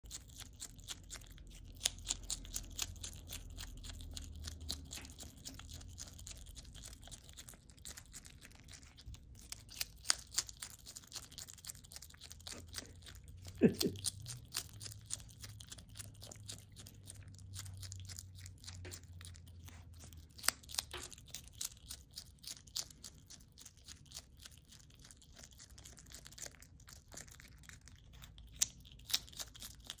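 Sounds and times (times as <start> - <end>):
animal chewing carrot crunches: 0.0 - 30.0.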